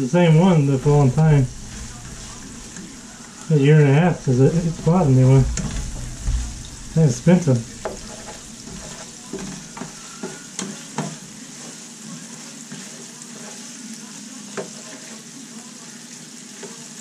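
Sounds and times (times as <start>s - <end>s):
spatula scraping the pan: 0.0s - 13.9s, 14.5s - 15.3s
food sizzling in a frying pan: 0.0s - 17.0s.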